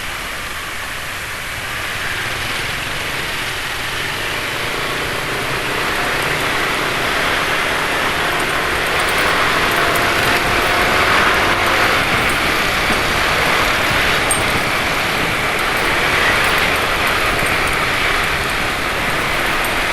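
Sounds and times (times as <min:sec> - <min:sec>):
road traffic noise: 0:00.0 - 0:19.9.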